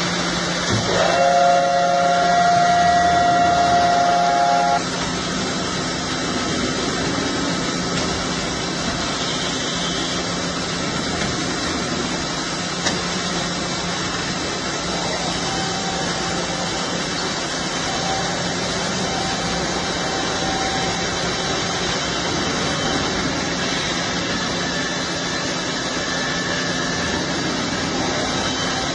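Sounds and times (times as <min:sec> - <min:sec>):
milling machine running: 0:00.0 - 0:28.9
multi-pitched whine: 0:00.0 - 0:28.9.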